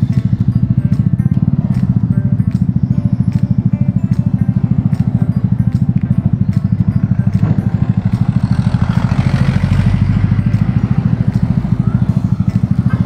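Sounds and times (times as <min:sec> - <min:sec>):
motorcycle engine idling: 0:00.0 - 0:13.0
traffic noise: 0:00.0 - 0:13.0.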